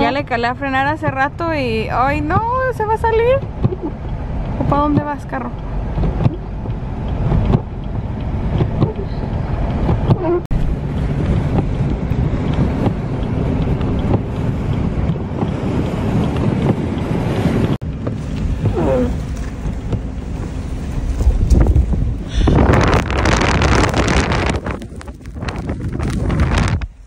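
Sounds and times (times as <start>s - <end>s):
car driving rumble: 0.0s - 27.0s
wind buffeting microphone: 0.0s - 27.0s.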